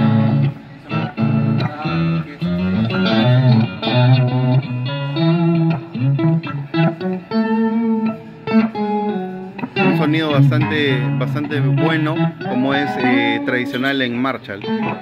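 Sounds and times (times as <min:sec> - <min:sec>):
distorted electric guitar notes: 0:00.0 - 0:15.0.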